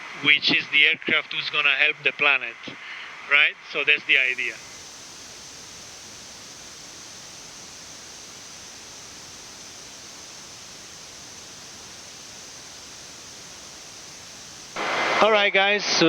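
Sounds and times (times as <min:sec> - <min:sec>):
cockpit airflow hiss: 0:00.0 - 0:16.0.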